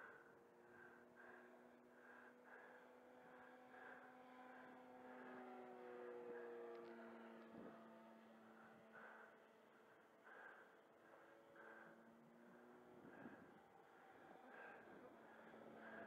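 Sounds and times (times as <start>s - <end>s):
model plane motor drone: 0.0s - 16.0s.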